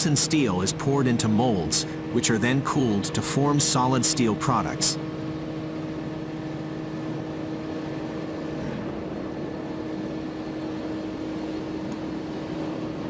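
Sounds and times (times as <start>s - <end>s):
heavy machinery humming: 0.0s - 13.0s.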